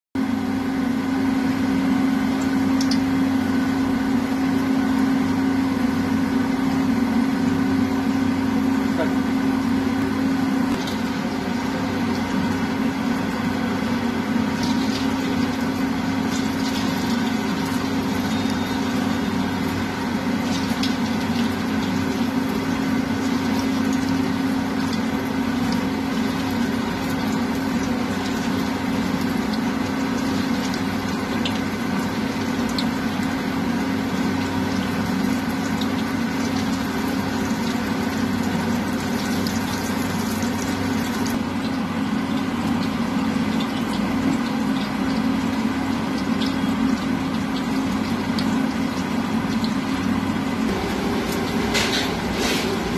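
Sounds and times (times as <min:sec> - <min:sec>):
chicken frying in hot oil: 0:00.2 - 0:52.9
machine hum: 0:00.2 - 0:52.9.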